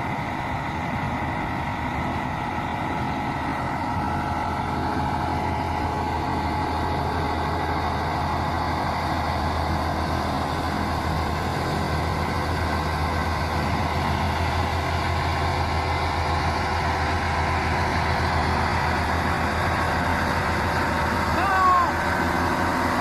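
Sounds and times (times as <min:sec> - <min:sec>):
truck diesel engine running: 0:00.0 - 0:23.0.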